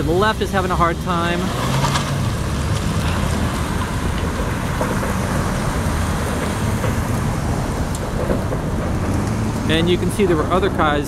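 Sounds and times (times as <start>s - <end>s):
city traffic rush: 0.0s - 11.0s.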